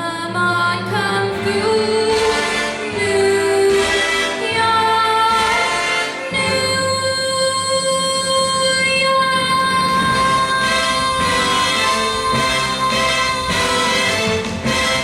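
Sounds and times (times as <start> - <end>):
girl singing: 0.0 - 14.2
instrumental accompaniment: 0.0 - 15.0.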